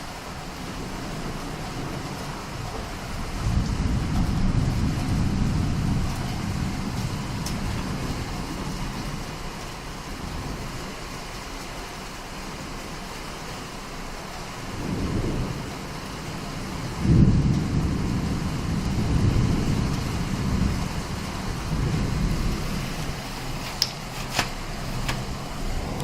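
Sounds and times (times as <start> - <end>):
thunder rolling: 0.0 - 11.0, 14.6 - 23.6, 24.4 - 26.0
steady rain: 0.0 - 26.0.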